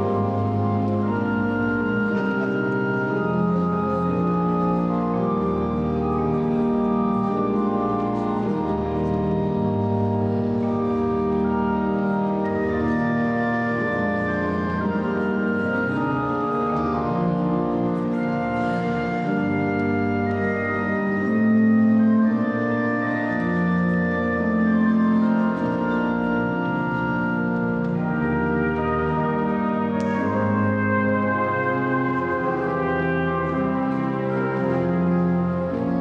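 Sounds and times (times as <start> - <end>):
organ playing slow chords: 0.0 - 36.0.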